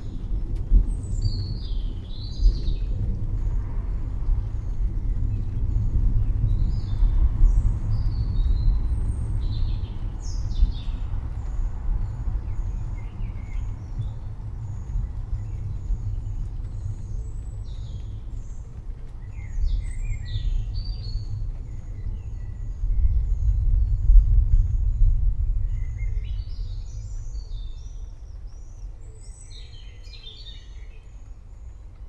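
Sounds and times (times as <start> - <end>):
distant thunder rumble: 0.0 - 32.0.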